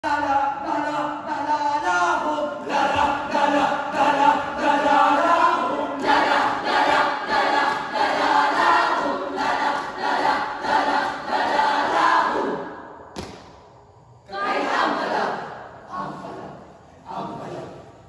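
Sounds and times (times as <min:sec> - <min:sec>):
group of voices singing: 0:00.0 - 0:12.9, 0:14.3 - 0:18.0.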